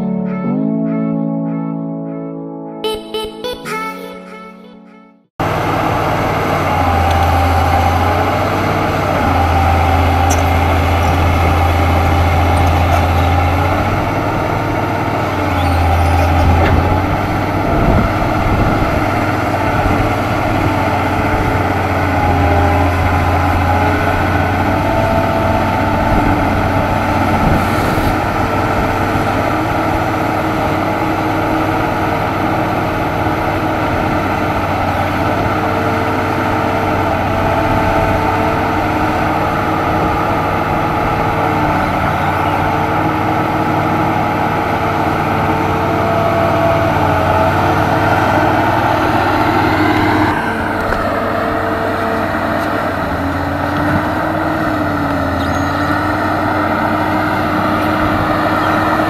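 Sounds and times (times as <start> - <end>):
excavator diesel engine drone: 5.4 - 59.0.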